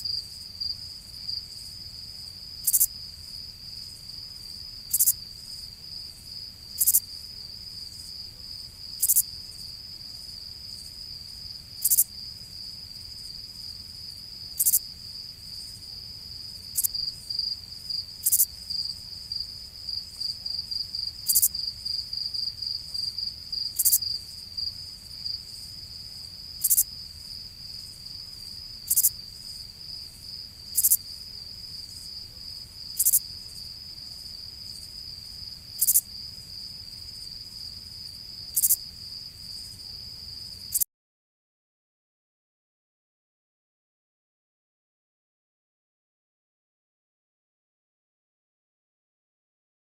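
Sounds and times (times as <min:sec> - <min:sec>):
crickets chirping: 0:00.0 - 0:40.8.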